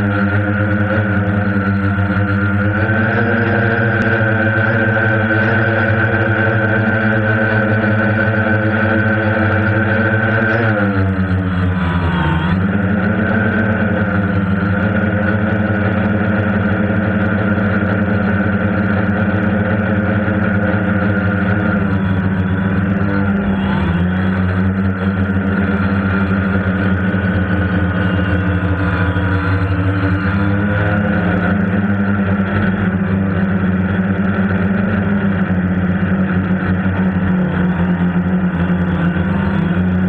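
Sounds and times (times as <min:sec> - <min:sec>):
drone propellers buzzing: 0:00.0 - 0:40.0
thin high whine: 0:00.0 - 0:40.0.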